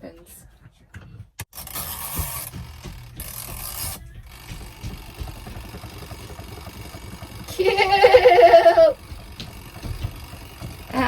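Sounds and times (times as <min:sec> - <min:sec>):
spin-dryer motor humming: 0:01.5 - 0:11.0.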